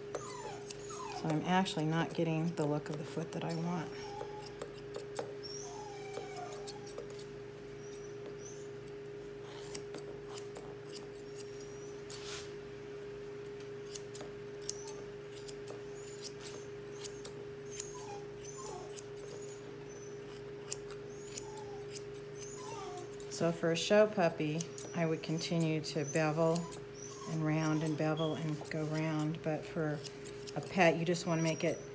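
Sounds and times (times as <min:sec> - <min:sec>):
grooming shears snipping hair: 0:00.0 - 0:12.6, 0:13.4 - 0:31.9
steady background hum: 0:00.0 - 0:31.9.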